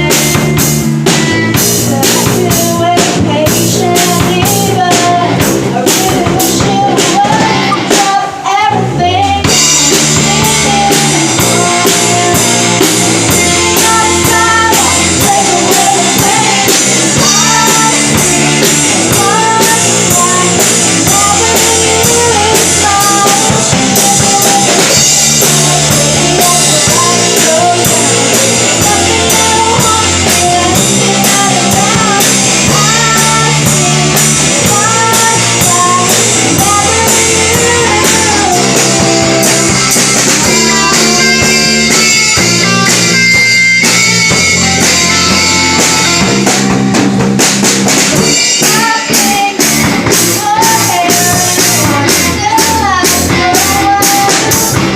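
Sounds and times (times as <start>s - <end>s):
pop-rock band playing: 0.0s - 54.9s.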